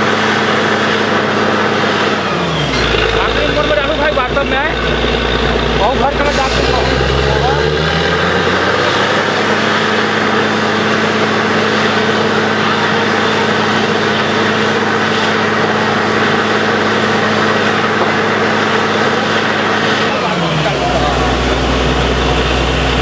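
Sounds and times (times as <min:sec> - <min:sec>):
drilling rig running: 0:00.0 - 0:23.0.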